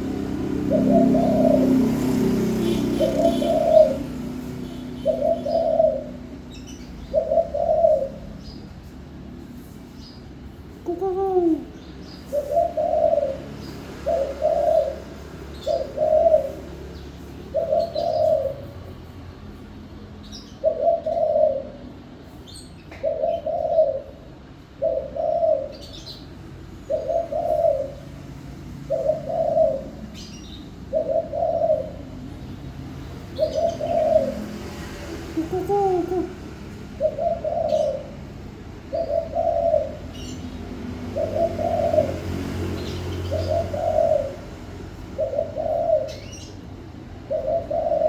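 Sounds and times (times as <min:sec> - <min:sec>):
dove cooing: 0:00.0 - 0:08.9, 0:10.0 - 0:18.9, 0:20.5 - 0:32.6, 0:33.2 - 0:48.0
small birds chirping: 0:00.0 - 0:24.2, 0:24.8 - 0:28.2, 0:28.8 - 0:48.0.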